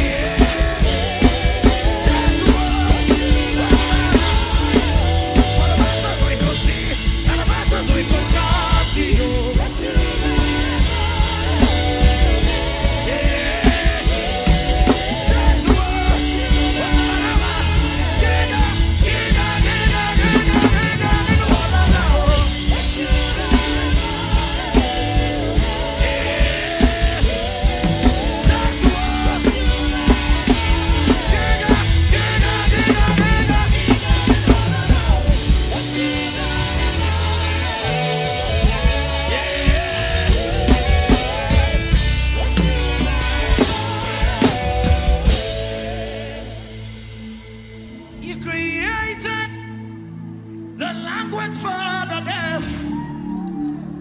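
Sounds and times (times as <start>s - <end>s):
person singing: 0.0s - 47.2s
drum kit played fast: 0.0s - 48.0s
live band music: 0.0s - 54.0s.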